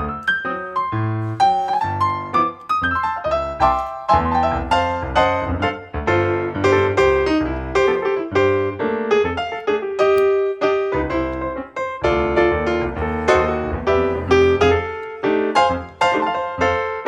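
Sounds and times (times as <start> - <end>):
lively piano music: 0.0 - 17.0.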